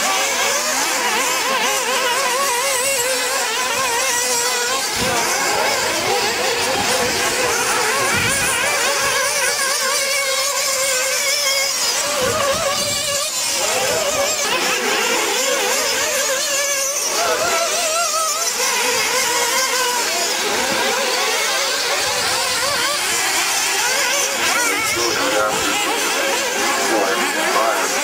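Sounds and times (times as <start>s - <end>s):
rc car engines buzzing: 0.0s - 28.0s.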